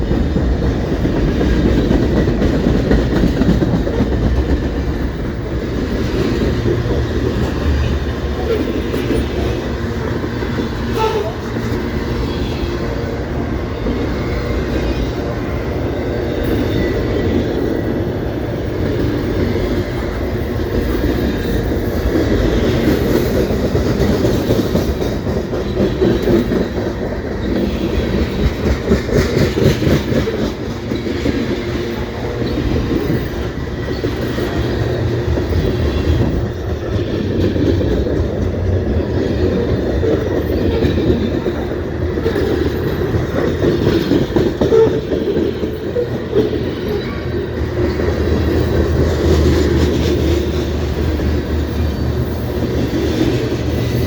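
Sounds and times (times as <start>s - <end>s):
train rumbling past: 0.0s - 54.0s
wheels clacking over rail joints: 0.0s - 54.0s.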